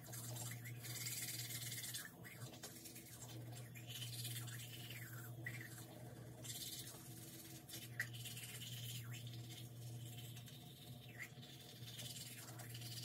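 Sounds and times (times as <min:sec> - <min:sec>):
steady low hum: 0:00.0 - 0:13.0
toothbrush scrubbing teeth: 0:00.0 - 0:13.0.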